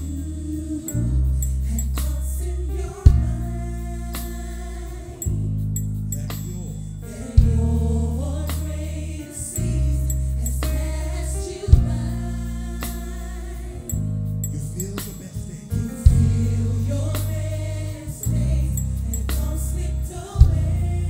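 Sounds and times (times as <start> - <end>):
choir singing: 0.0 - 14.2, 15.3 - 21.0
electric bass low notes: 0.0 - 21.0.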